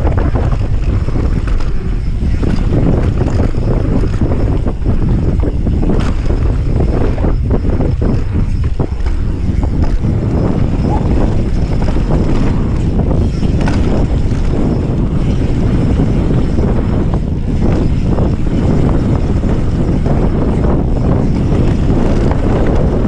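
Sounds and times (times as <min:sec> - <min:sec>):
bike clicks and knocks: 0:00.0 - 0:23.0
tyres rumbling on dirt trail: 0:00.0 - 0:23.0
wind buffeting microphone: 0:00.0 - 0:23.0.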